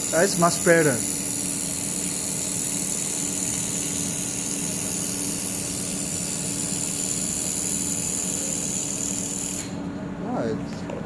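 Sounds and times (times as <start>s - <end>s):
welder hiss: 0.0s - 9.8s
welder machine hum: 0.0s - 10.7s.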